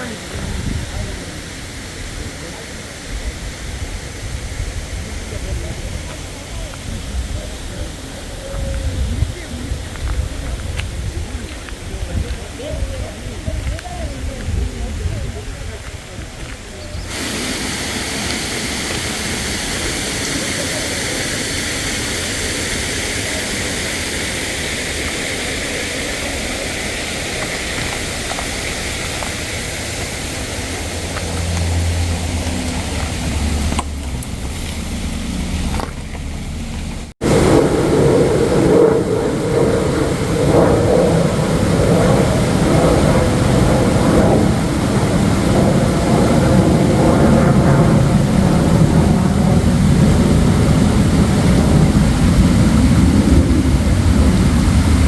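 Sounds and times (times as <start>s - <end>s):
stream water rushing: 0.0s - 14.3s, 15.6s - 55.0s.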